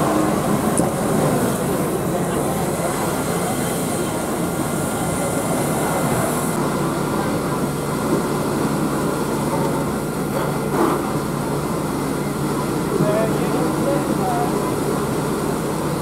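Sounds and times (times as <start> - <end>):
fire engine pump rumbling: 0.0 - 16.0
fire hose spraying water: 0.0 - 16.0.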